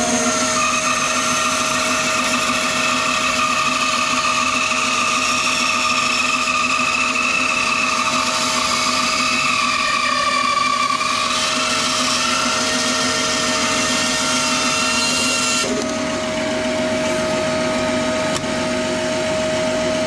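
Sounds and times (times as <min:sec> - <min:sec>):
power tool motor whine: 0:00.0 - 0:20.0.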